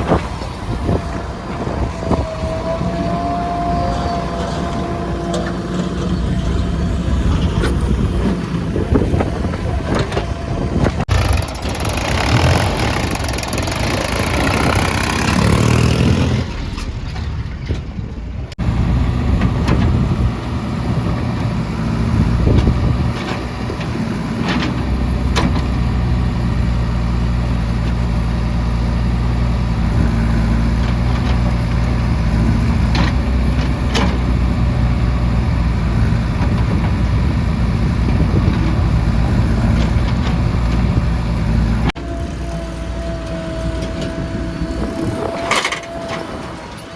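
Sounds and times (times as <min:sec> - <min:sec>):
diesel engines revving: 0:00.0 - 0:46.9.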